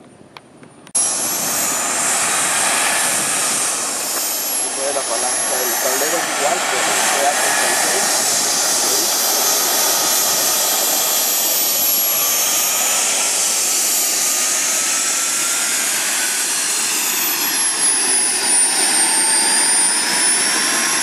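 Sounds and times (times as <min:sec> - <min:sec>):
model jet turbine whine: 0:00.8 - 0:21.0.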